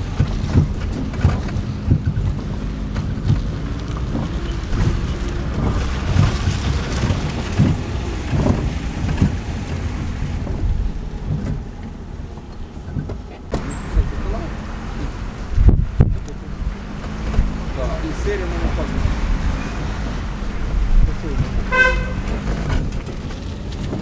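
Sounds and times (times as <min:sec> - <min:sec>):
road noise rumble in car: 0:00.0 - 0:24.0.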